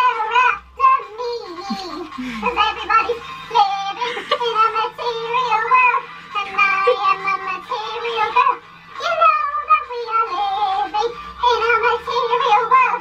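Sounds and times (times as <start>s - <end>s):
music: 0.0s - 13.0s
person singing: 0.0s - 13.0s.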